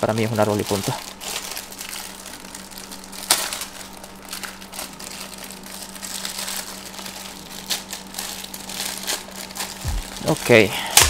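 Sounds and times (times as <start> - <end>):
faint low hum: 0.0 - 11.0
plastic bag crinkling: 0.0 - 11.0.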